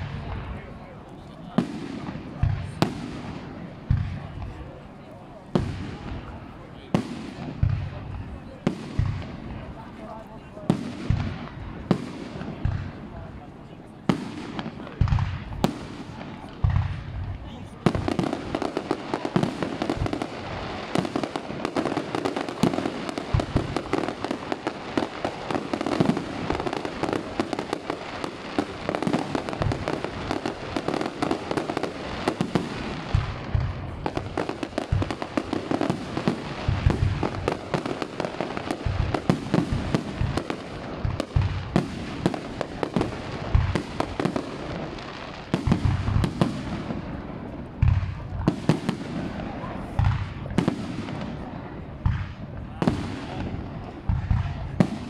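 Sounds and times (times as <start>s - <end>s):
fireworks bangs: 0.0s - 55.0s
low firework thuds: 1.5s - 4.8s, 5.4s - 13.3s, 14.0s - 55.0s.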